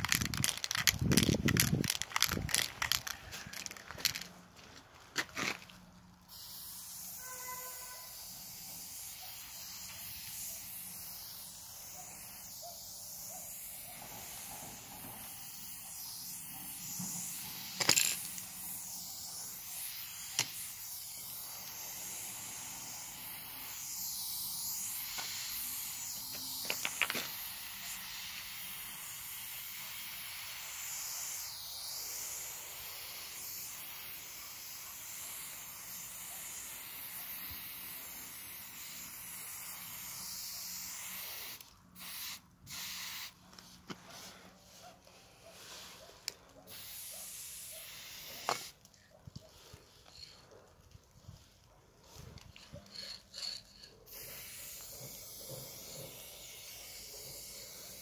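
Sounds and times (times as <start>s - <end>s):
spray paint can hissing: 0.0s - 4.4s, 5.4s - 58.0s.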